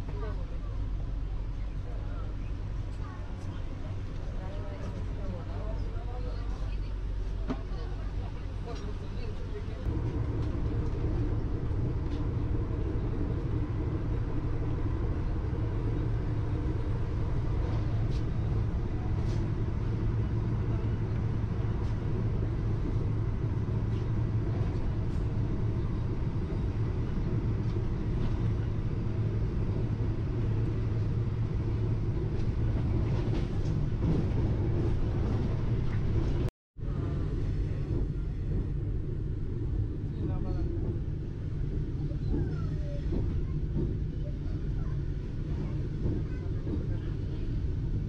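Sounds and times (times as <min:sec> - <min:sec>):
train carriage rumble: 0:00.0 - 0:48.0.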